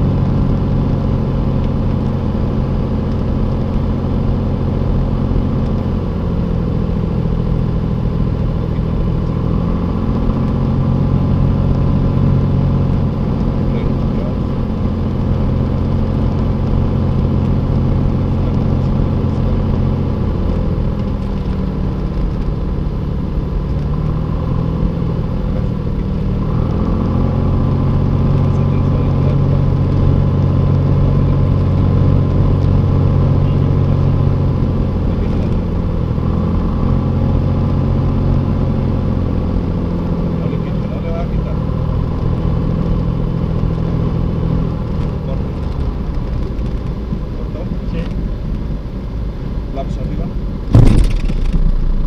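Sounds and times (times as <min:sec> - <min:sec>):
light aircraft engine and propeller: 0:00.0 - 0:52.0.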